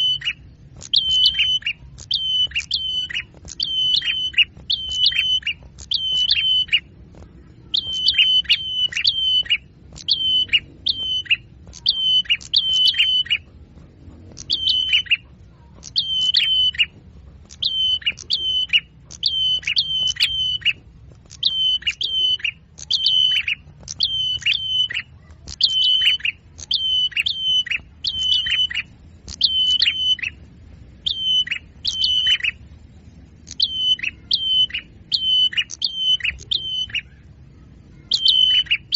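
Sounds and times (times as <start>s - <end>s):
small songbird calling: 0.0s - 13.5s, 14.1s - 38.9s.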